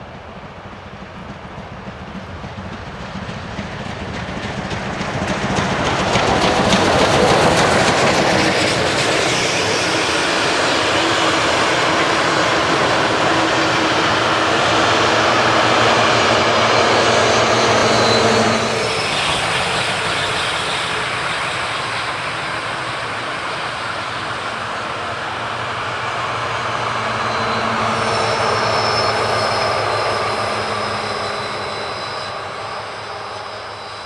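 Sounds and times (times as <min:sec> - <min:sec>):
train passing on track: 0:00.0 - 0:34.0.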